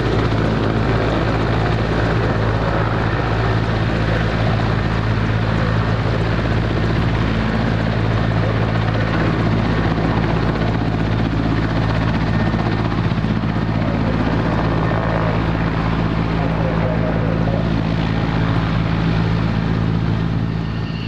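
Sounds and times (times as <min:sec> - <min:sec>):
helicopter engines and rotors running: 0:00.0 - 0:21.0.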